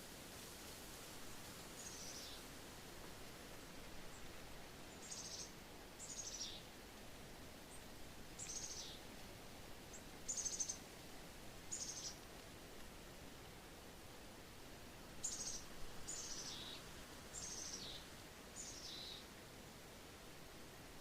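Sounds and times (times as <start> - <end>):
wind in trees: 0.0 - 21.0.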